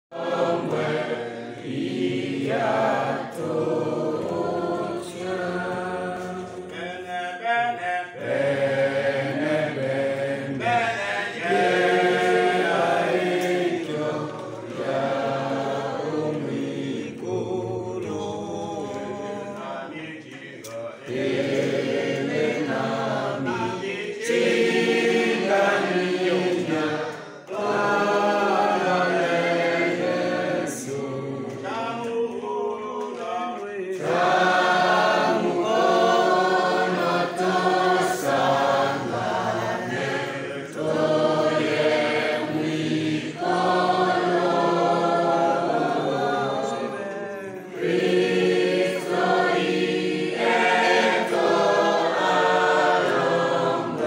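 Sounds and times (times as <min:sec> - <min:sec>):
group singing a hymn: 0:00.1 - 0:54.0.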